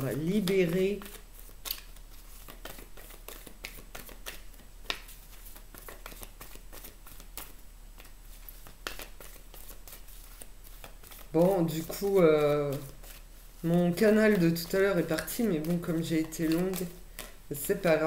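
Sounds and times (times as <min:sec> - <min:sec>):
cards shuffling: 0:00.0 - 0:18.0.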